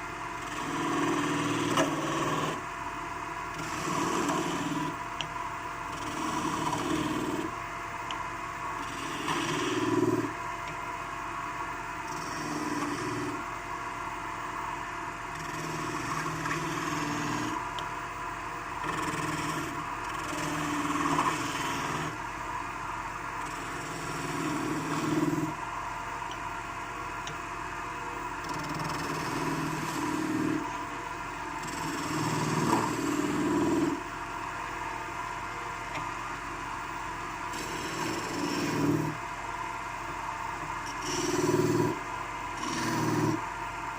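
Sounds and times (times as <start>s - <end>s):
chisel cutting spinning wood: 0.0s - 43.9s
wood lathe running: 0.0s - 43.9s.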